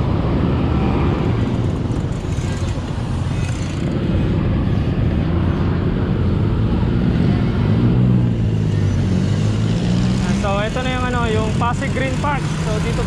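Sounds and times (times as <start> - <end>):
busy road traffic rumble: 0.0 - 13.0.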